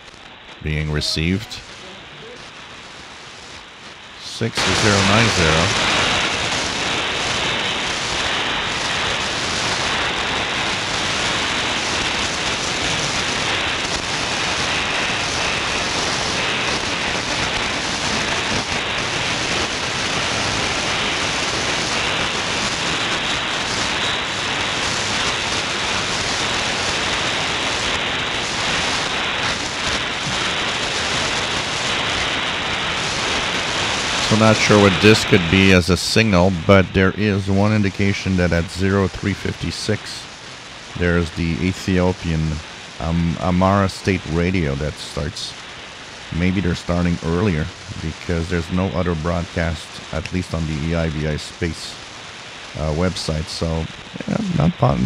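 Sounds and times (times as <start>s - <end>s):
radio static hiss: 0.0s - 55.0s.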